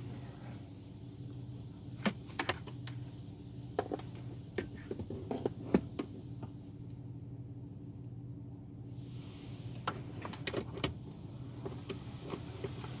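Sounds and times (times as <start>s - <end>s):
steady low hum inside car: 0.0s - 13.0s.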